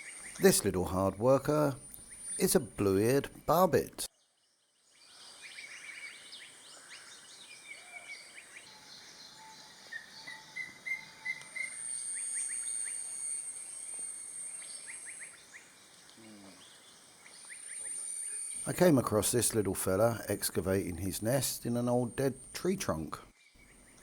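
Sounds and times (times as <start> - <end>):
birds chirping: 0.0 - 4.1, 4.7 - 24.0.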